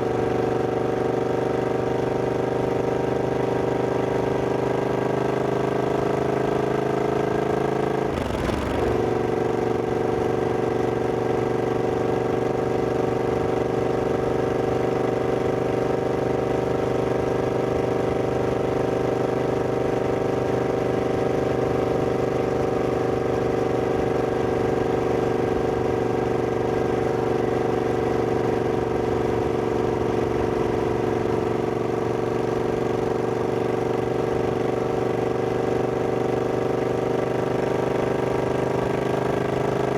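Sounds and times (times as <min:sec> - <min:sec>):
motorcycle engine running: 0:00.1 - 0:39.9.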